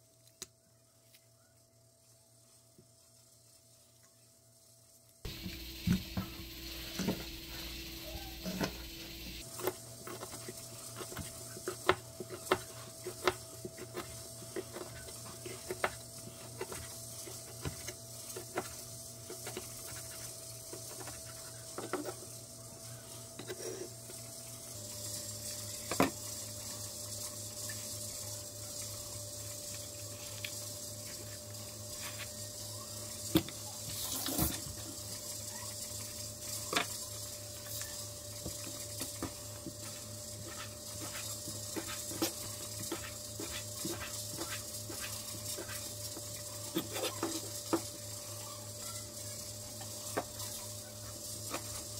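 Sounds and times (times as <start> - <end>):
steady low hum: 4.6 - 51.9.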